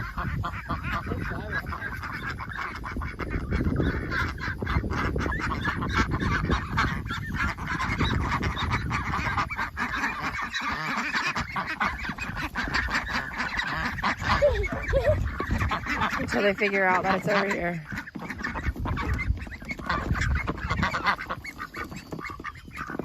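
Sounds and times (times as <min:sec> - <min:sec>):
chickens clucking: 0:00.0 - 0:23.0
ducks quacking: 0:00.0 - 0:23.0.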